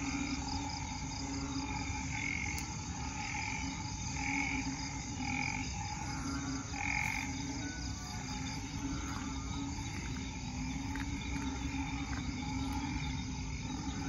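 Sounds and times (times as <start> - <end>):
frogs calling in chorus: 0.0 - 14.0
steady low rumble: 0.0 - 14.0.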